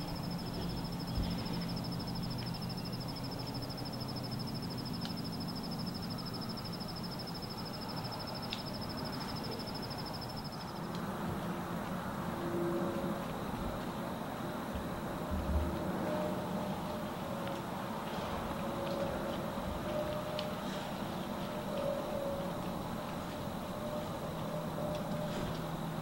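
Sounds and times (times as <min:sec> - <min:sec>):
faint hum: 0:00.0 - 0:26.0
low background rumble: 0:00.0 - 0:26.0
faint ticks: 0:00.1 - 0:12.5, 0:16.9 - 0:25.8.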